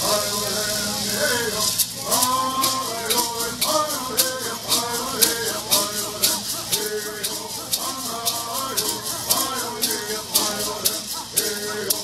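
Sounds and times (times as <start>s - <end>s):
boys singing a chant: 0.0s - 12.0s
gourd rattles shaken: 0.0s - 12.0s.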